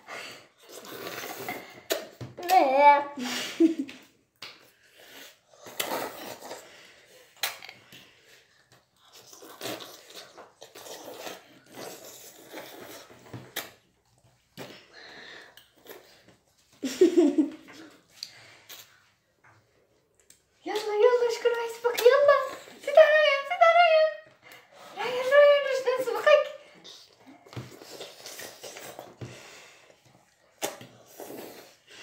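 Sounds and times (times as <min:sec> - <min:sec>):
children slurping and chewing noodles: 0:00.0 - 0:32.0.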